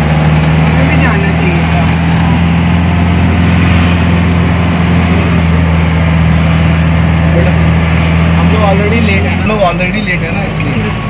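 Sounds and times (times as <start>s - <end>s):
road noise: 0.0s - 11.0s
vehicle engine low drone: 0.0s - 11.0s.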